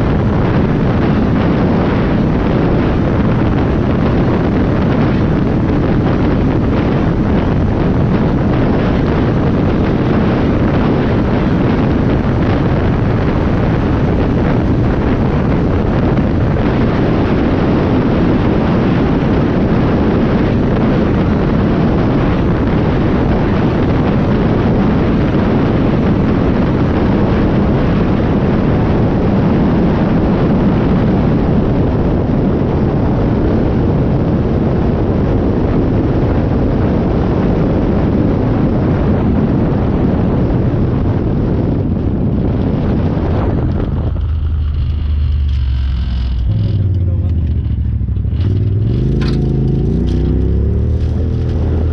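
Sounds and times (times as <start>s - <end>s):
vehicle engine drone: 0.0s - 51.9s
wind buffeting microphone: 0.0s - 51.9s.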